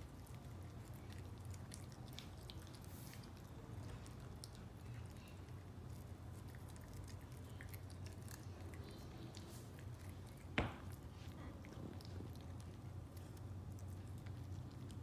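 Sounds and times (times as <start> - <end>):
puppy chewing: 0.0 - 15.0.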